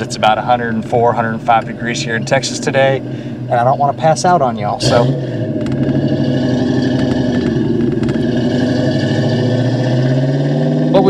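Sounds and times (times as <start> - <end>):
car engine cruising: 0.0 - 11.0.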